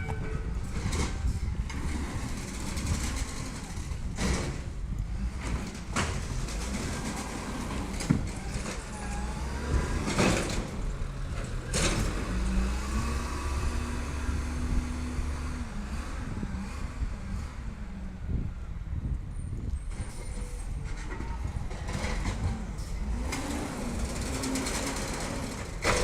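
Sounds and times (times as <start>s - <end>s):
truck engine running: 0.0s - 19.9s, 20.5s - 26.0s.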